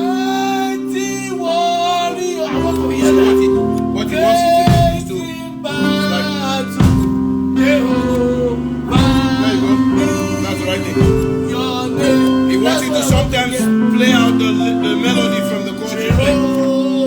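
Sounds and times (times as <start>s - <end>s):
electric keyboard gospel chords: 0.0s - 17.0s
person singing: 0.0s - 17.0s.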